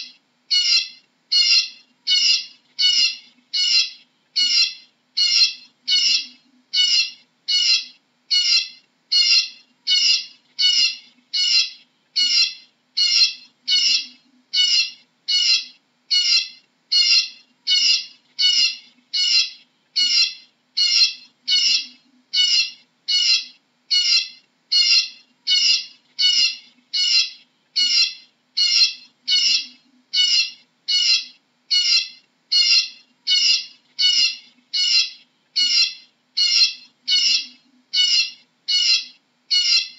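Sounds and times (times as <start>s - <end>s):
bird calling: 0.0s - 39.9s.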